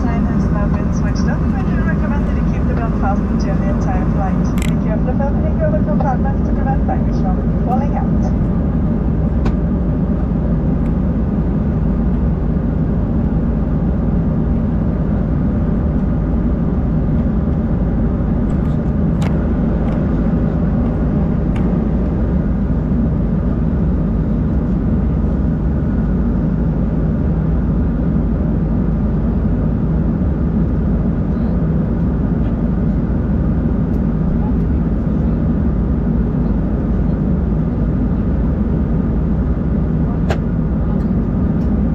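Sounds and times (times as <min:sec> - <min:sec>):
jet cabin noise: 0:00.0 - 0:41.9.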